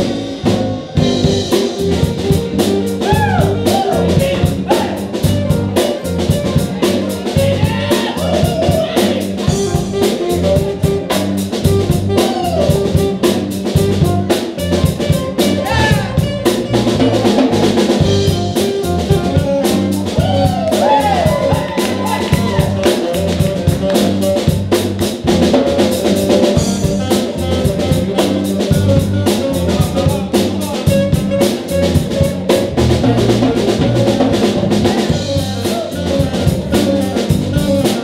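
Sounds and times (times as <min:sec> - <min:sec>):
drum kit beat: 0:00.0 - 0:38.0
live jazz band playing: 0:00.0 - 0:38.0.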